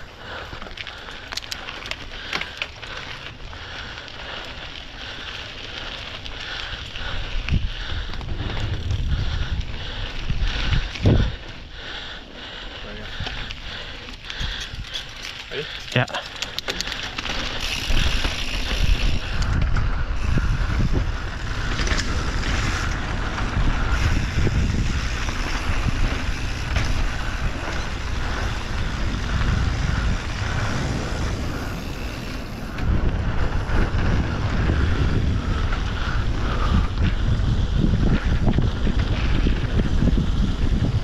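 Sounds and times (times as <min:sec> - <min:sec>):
tyres rolling over gravel: 0:00.0 - 0:41.0
wind buffeting microphone: 0:00.0 - 0:41.0.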